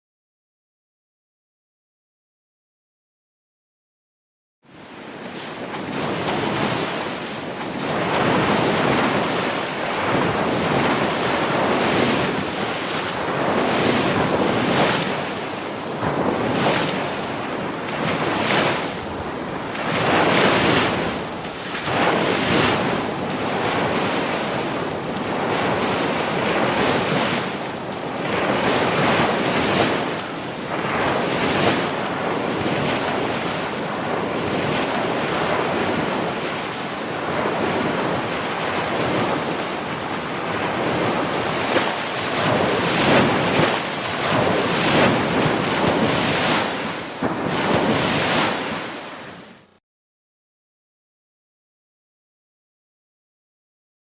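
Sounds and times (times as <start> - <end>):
ocean waves breaking: 4.7 - 49.8.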